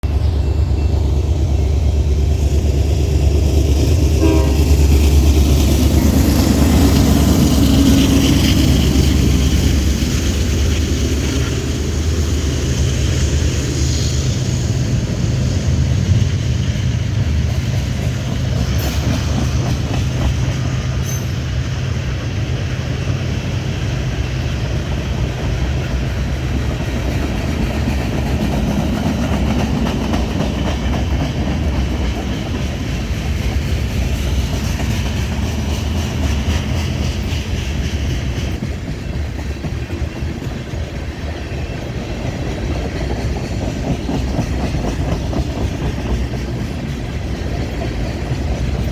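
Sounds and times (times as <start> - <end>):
diesel locomotive engines droning: 0.0 - 48.9
wheels rumbling on rails: 0.0 - 48.9.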